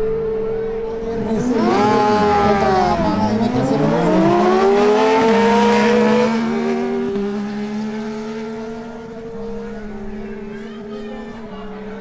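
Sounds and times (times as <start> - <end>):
engine pitch dropping at upshifts: 0.0 - 10.6
motorcycle engines accelerating: 0.0 - 12.0.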